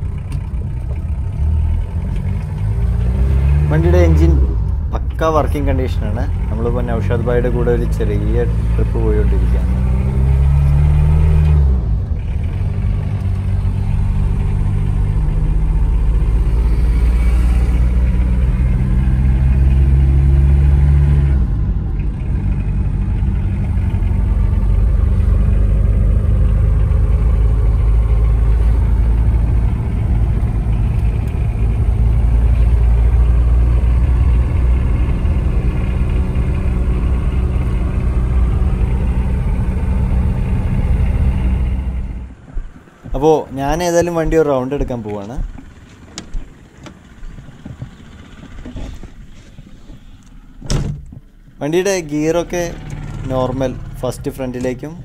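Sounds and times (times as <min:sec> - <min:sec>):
diesel engine running: 0:00.0 - 0:55.0
tyre and road noise: 0:00.0 - 0:55.0.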